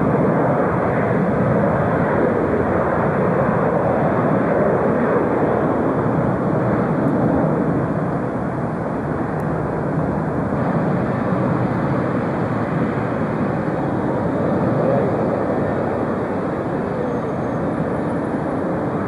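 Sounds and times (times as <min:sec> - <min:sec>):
jet airliner engines: 0:00.0 - 0:19.0.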